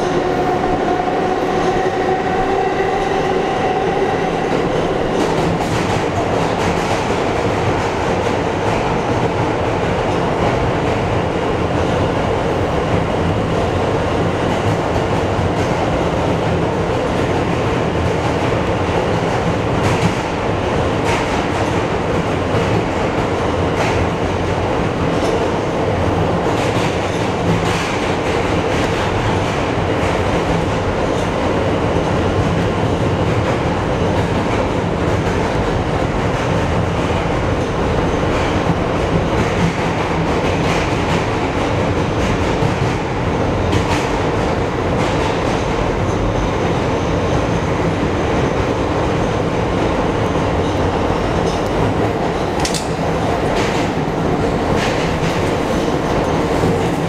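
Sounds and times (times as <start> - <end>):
subway train wheels roaring on rail: 0.0 - 57.0.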